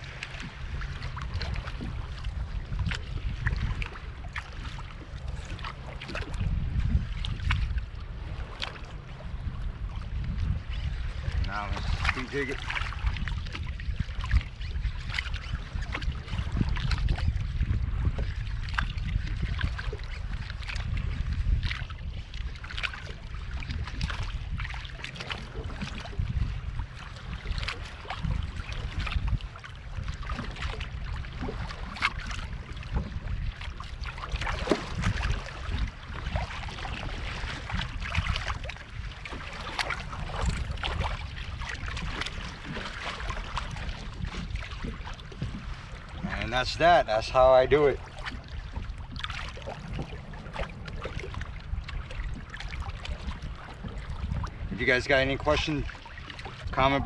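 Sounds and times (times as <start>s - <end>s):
small waves slapping hull: 0.0s - 57.0s
wind rumbling on microphone: 0.0s - 57.0s.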